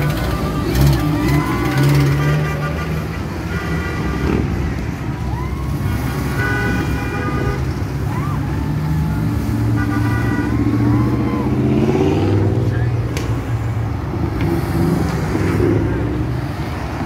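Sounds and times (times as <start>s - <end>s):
vehicles driving past slowly: 0.0s - 17.0s.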